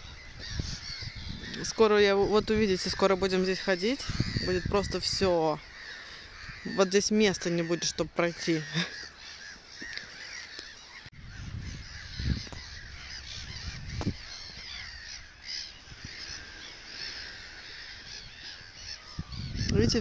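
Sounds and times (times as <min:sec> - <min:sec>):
flock of birds calling: 0:00.0 - 0:20.0.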